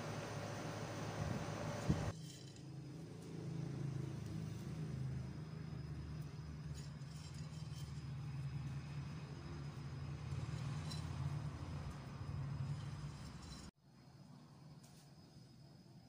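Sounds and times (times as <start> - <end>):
low steady rumble: 0.0 - 13.7.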